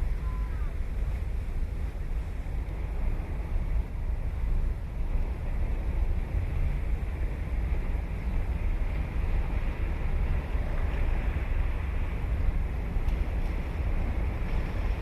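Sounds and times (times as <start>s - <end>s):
waves washing on beach: 0.0s - 15.0s
wind buffeting microphone: 0.0s - 15.0s.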